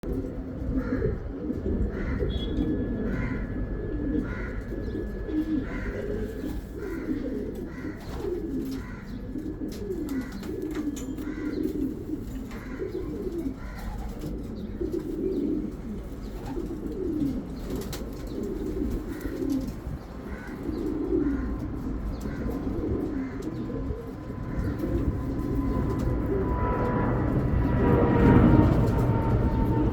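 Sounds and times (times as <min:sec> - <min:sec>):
low background hum: 0:00.0 - 0:29.9
pigeons cooing: 0:00.0 - 0:29.9.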